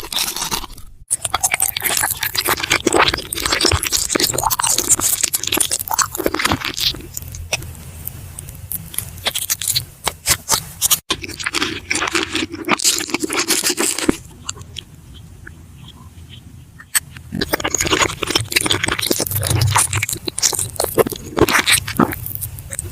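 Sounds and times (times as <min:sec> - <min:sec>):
crisp crunching bites: 0:00.0 - 0:14.8, 0:16.9 - 0:22.9
chewing: 0:00.0 - 0:22.9.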